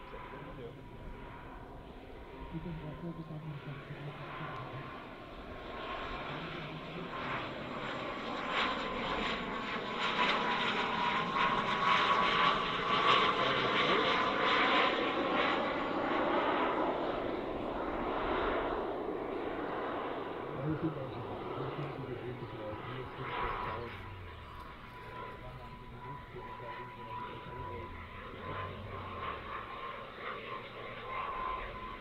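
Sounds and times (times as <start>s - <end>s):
model jet turbine whine: 0.0s - 32.0s.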